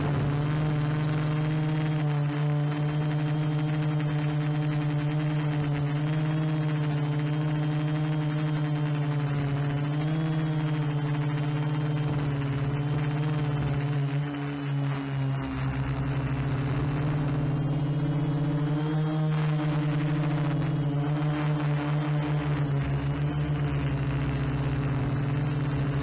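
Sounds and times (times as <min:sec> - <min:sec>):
drone propellers humming: 0:00.0 - 0:26.0.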